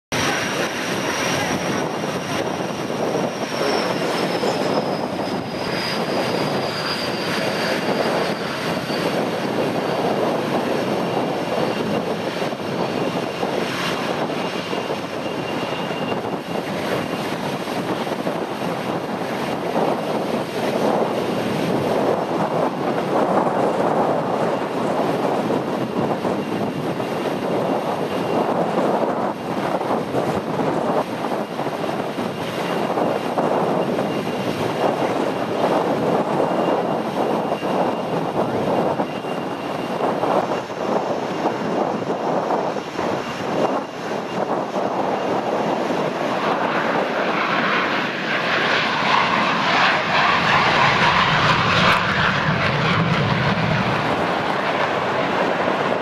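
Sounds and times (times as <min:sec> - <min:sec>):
jet engine rush with high whine: 0:00.0 - 0:56.0.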